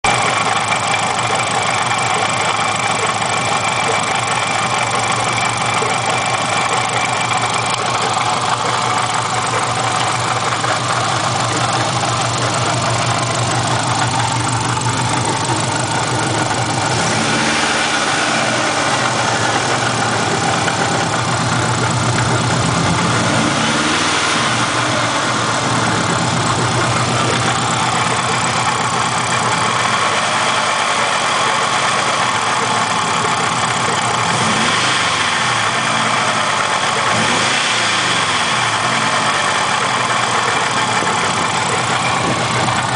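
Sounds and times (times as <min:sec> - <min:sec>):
car engine idling with knocking: 0:00.0 - 0:42.9
engine revving: 0:03.7 - 0:42.9.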